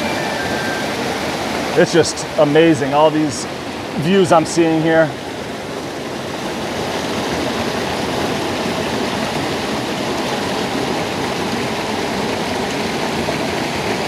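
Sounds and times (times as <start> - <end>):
creek water rushing over rocks: 0.0 - 14.0.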